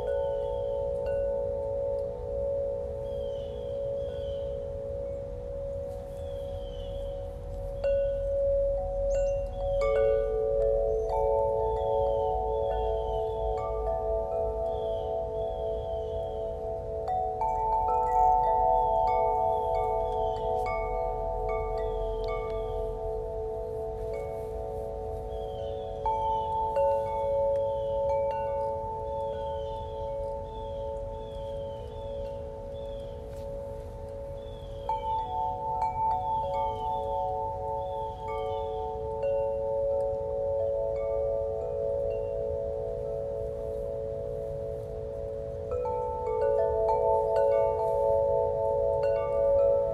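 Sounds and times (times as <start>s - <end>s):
chimes ringing: 0.0s - 49.9s.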